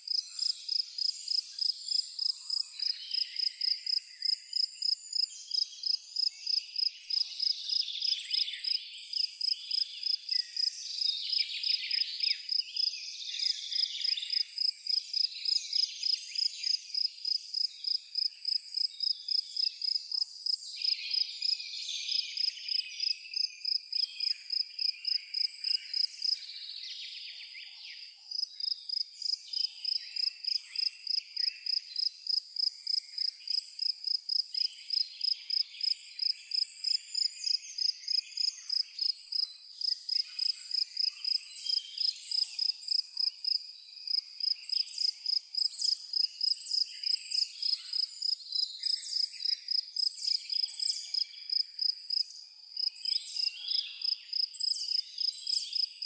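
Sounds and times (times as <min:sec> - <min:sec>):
cricket chirping: 0:00.0 - 0:27.1, 0:28.3 - 0:56.0
birds chirping and twittering: 0:00.0 - 0:56.0.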